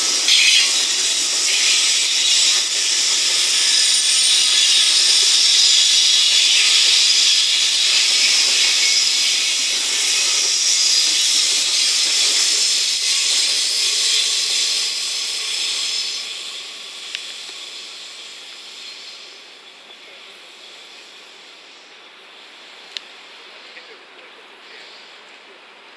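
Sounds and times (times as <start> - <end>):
train wheels rushing hiss: 0.0 - 25.9.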